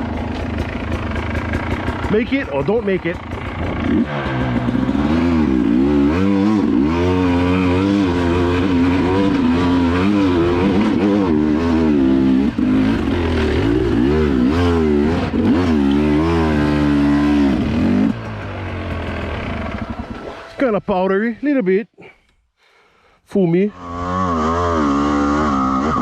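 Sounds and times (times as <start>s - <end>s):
dirt bike engine revving: 0.0s - 21.1s, 23.6s - 26.0s.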